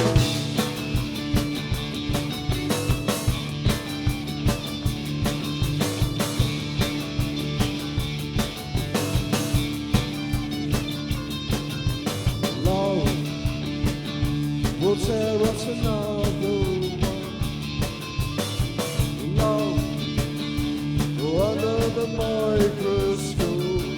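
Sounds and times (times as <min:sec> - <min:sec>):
bass: 0:00.0 - 0:23.9
drum kit beat: 0:00.0 - 0:23.9
guitar: 0:00.0 - 0:23.9.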